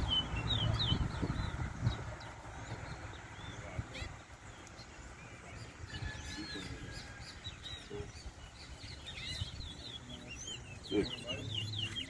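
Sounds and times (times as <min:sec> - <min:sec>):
finch singing: 0:00.0 - 0:12.0.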